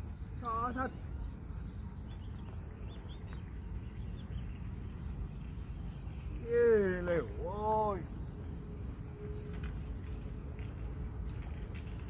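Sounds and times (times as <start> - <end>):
faint bird chirps: 0.0 - 10.2.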